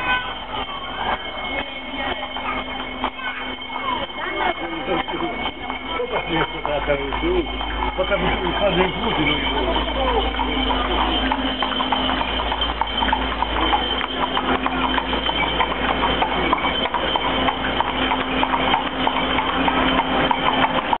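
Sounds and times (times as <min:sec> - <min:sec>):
hooves clip-clopping on pavement: 0:00.0 - 0:21.0.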